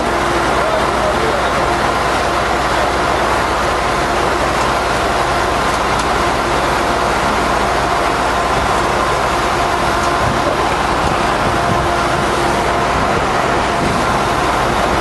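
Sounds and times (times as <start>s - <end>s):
excavator diesel engines droning: 0.0s - 15.0s.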